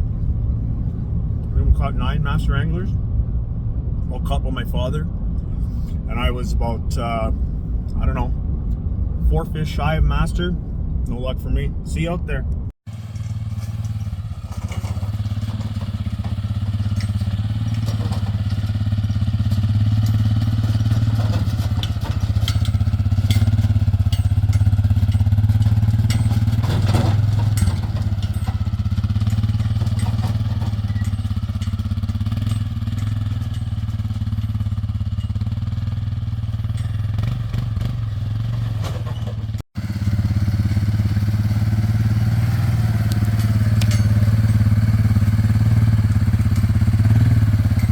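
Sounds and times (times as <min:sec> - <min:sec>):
vehicle interior road drone: 0:00.0 - 0:47.9.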